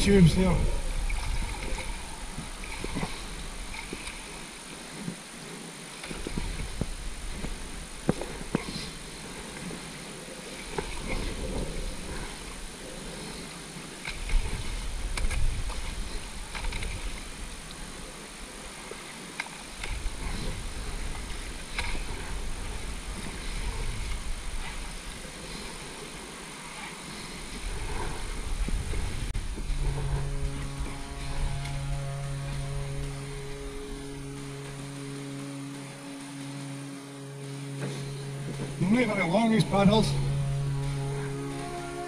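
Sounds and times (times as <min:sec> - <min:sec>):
wind buffeting microphone: 0:00.0 - 0:18.9, 0:19.8 - 0:35.1
paddles splashing in water: 0:00.0 - 0:42.0.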